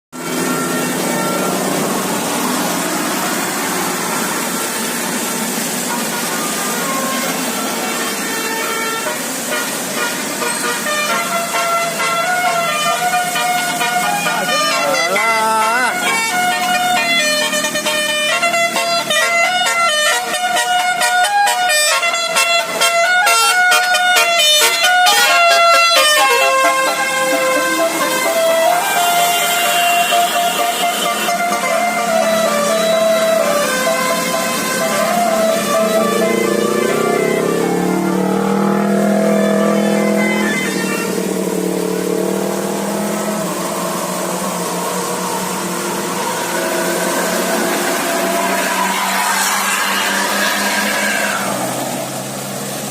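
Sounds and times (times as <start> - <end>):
musical bus horn playing a tune: 0.2 - 51.5.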